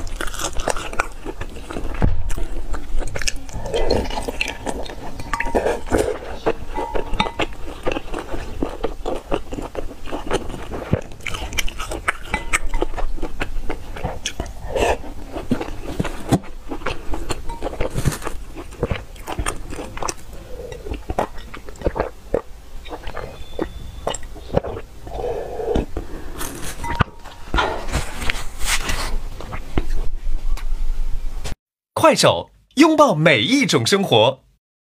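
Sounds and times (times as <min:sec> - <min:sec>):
close chewing and biting: 0:00.0 - 0:30.1.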